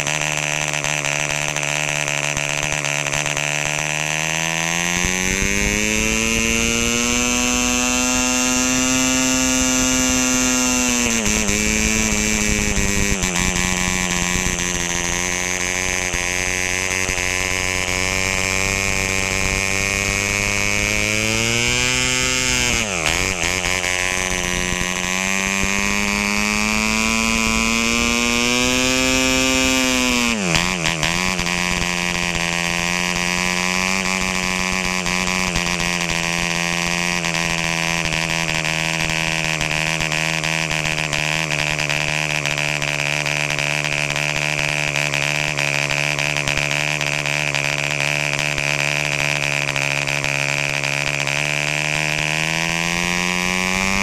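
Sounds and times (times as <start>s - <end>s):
model engine buzzing: 0.0s - 54.0s.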